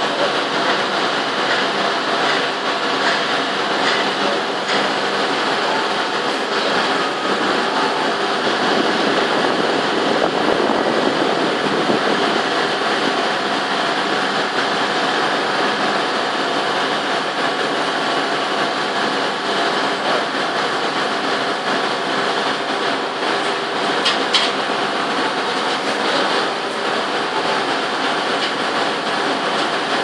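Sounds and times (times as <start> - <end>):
heavy machinery running: 0.0 - 30.0.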